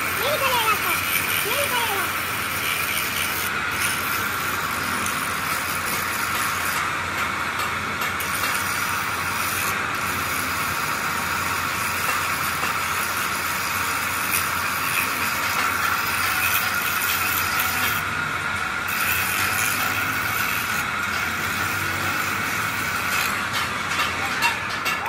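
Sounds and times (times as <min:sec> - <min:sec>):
die grinder grinding metal: 0:00.0 - 0:25.0.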